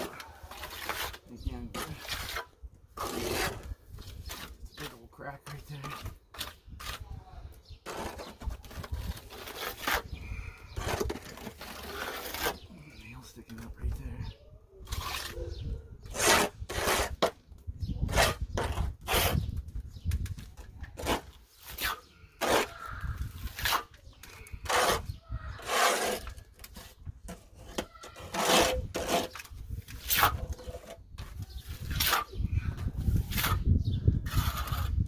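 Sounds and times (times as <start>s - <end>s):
trowel scraping stucco: 0.0s - 35.0s.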